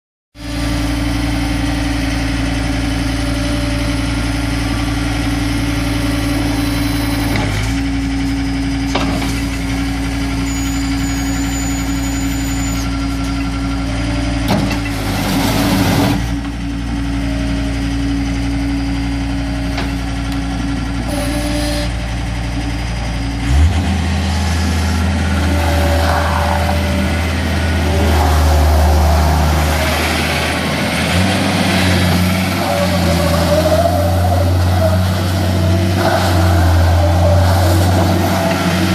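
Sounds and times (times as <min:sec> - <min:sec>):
skid steer diesel engine running: 0:00.4 - 0:38.9.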